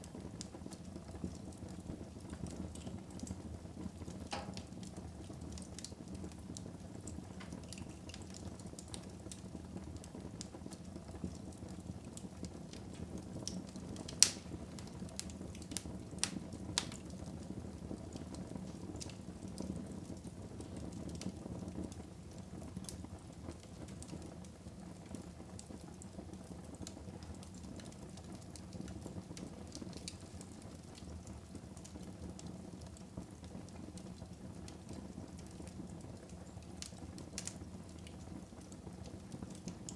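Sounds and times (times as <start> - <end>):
fire popping: 0.0 - 39.9
flames rushing: 0.0 - 39.9.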